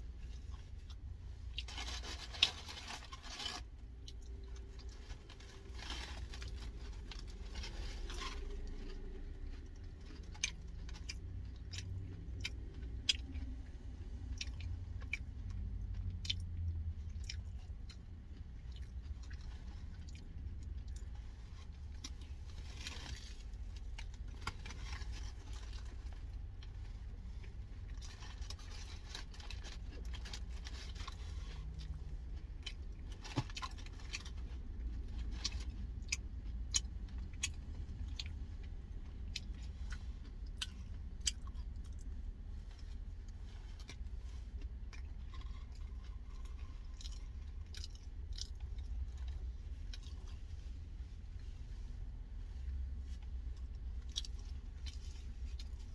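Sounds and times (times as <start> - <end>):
person chewing crunchy food: 0.2 - 50.9, 52.6 - 55.9.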